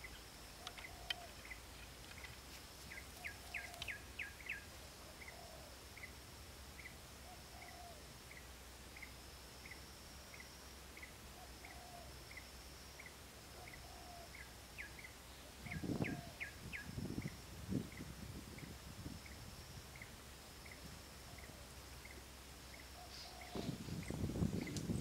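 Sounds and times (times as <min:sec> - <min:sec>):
bird-like chirp: 0:00.0 - 0:06.2, 0:06.8 - 0:25.0
high insect drone: 0:00.0 - 0:25.0.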